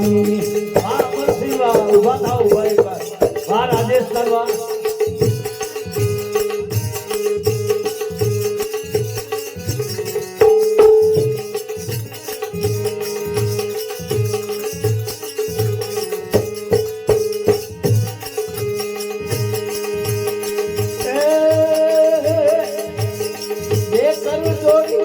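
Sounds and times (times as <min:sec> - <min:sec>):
regular drum beat: 0:00.0 - 0:25.0
sharp percussion strikes: 0:00.0 - 0:25.0.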